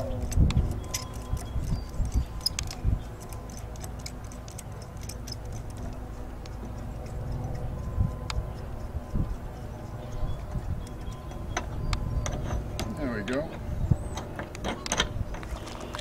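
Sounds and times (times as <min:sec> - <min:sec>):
small metallic clicks: 0:00.0 - 0:13.5
wind rumble on microphone: 0:00.0 - 0:16.0.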